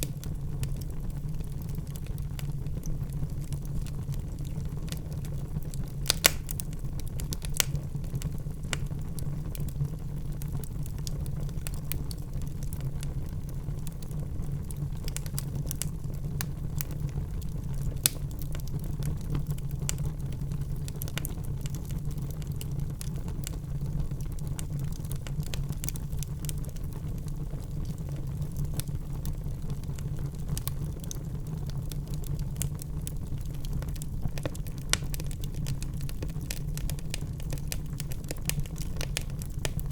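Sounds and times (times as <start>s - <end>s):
log fire crackling: 0.0s - 39.9s
sharp pops and snaps of fire: 0.0s - 39.9s.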